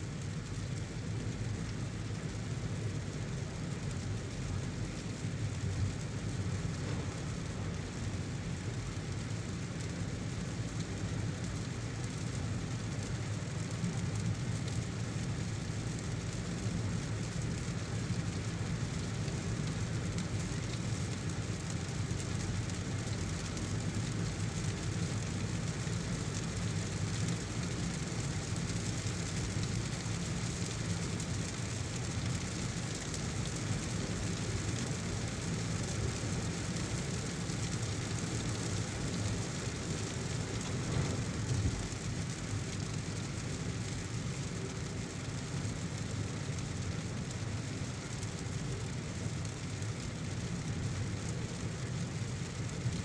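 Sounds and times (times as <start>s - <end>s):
car driving on wet road: 0.1s - 53.0s
heavy rain falling: 0.1s - 53.0s.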